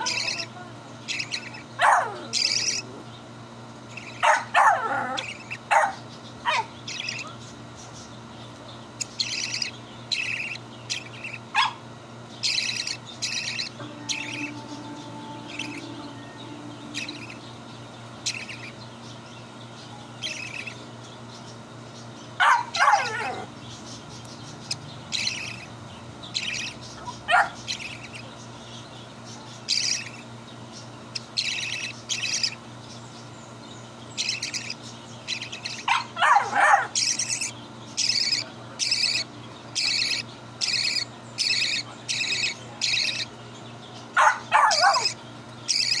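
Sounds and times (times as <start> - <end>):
baby budgerigar chirping: 0.0 - 3.3, 3.9 - 46.0.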